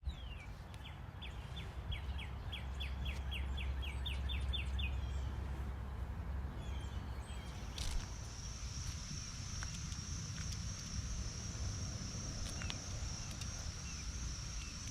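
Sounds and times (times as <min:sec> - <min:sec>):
low outdoor rumble: 0:00.0 - 0:14.9
songbird down-slurred notes: 0:00.0 - 0:14.9.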